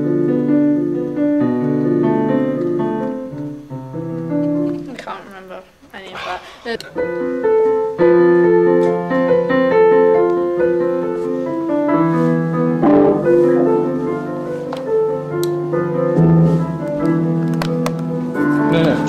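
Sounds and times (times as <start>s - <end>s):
slow sad piano piece: 0.0s - 5.0s, 6.9s - 19.0s.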